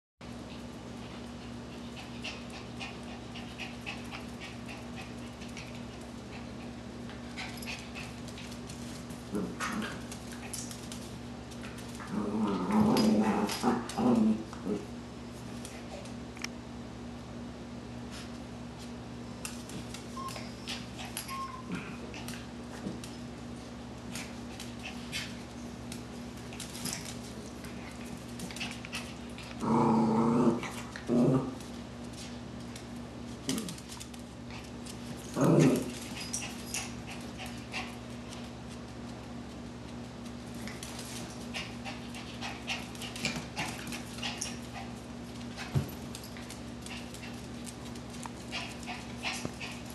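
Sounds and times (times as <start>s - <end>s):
dogs play vocalising: 0.5s - 16.2s, 19.7s - 32.3s, 33.4s - 38.7s, 40.5s - 49.9s.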